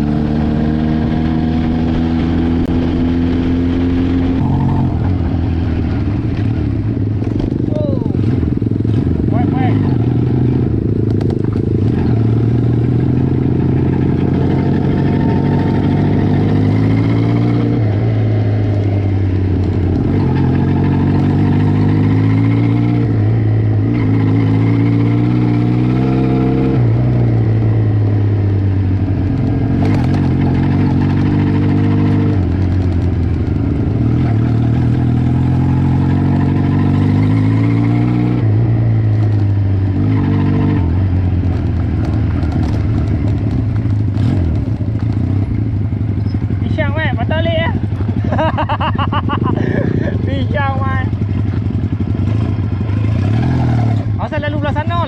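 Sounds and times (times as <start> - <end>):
motorcycle engine revving: 0.0 - 55.0
road and wind noise: 0.0 - 55.0.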